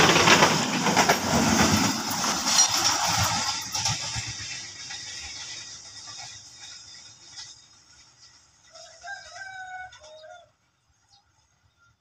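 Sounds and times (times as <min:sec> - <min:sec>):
train wheels on rails: 0:00.0 - 0:11.9.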